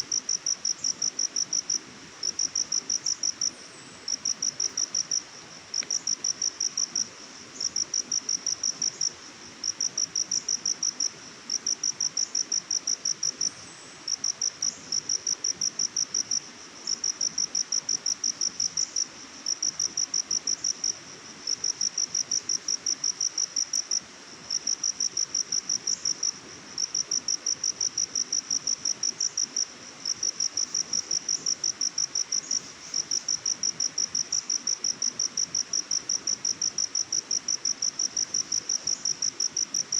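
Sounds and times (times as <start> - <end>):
cricket chirping: 0.0 - 39.9
faint background hiss: 0.0 - 39.9.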